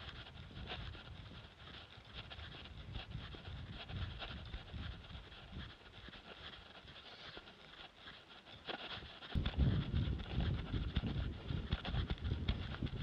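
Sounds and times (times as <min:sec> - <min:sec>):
wind buffeting microphone: 0:00.0 - 0:06.8, 0:08.8 - 0:13.0
running footsteps on dirt path: 0:00.0 - 0:13.0.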